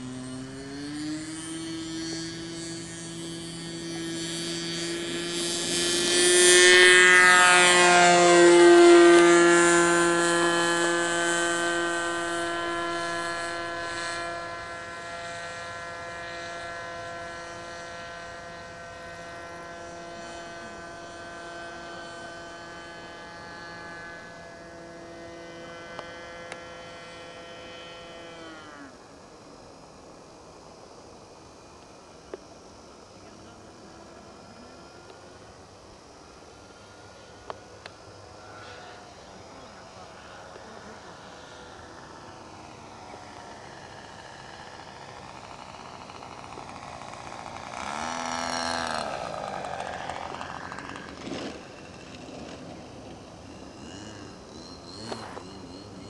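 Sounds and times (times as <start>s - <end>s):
model plane motor and propeller: 0.0s - 56.0s.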